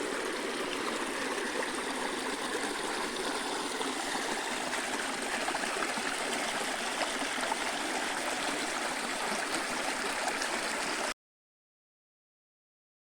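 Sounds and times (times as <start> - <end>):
water rushing over rocks: 0.0 - 11.1.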